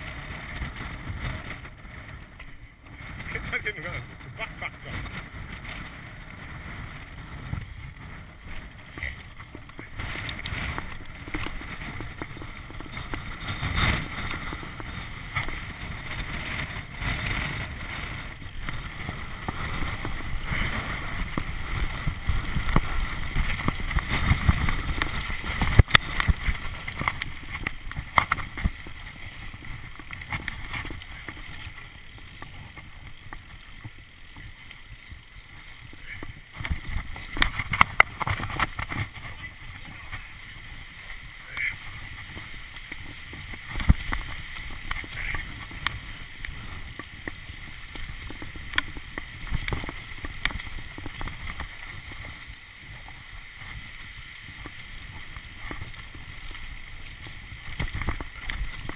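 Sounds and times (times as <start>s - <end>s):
bike rattling over bumps: 0.0s - 58.9s
bike tyres on dirt trail: 0.0s - 58.9s
wind buffeting microphone: 0.0s - 58.9s.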